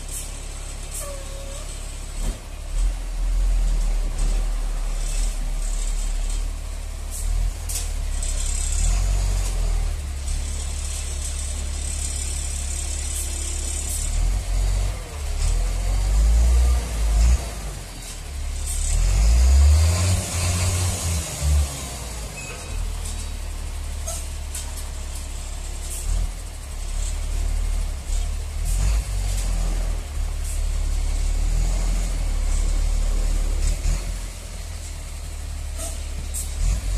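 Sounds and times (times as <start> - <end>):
diesel truck engine revving: 0.0 - 36.9.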